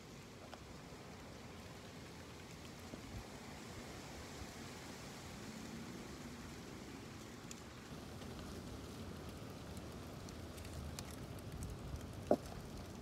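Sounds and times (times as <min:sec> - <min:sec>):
light crackles: 0:00.0 - 0:13.0.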